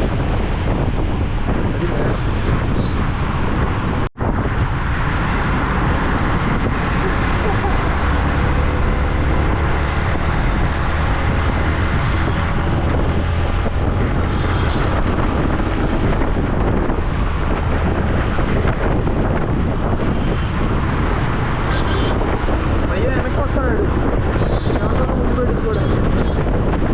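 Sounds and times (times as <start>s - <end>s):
road noise: 0.0s - 26.9s
wind buffeting microphone: 0.0s - 26.9s.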